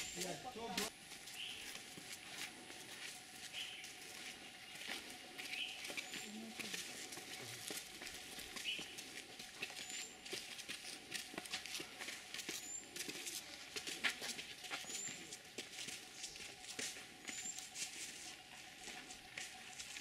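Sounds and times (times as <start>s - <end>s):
footsteps on stone steps: 0.0s - 20.0s.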